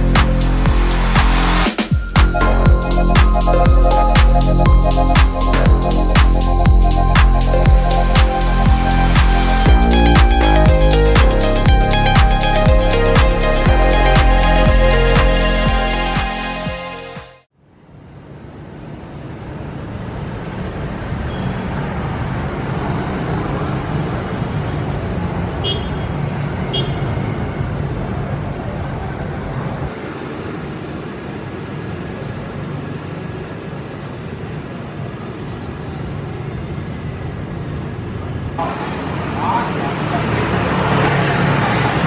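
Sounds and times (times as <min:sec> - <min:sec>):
street traffic with motorbikes: 0:00.0 - 0:16.2, 0:17.6 - 0:42.0.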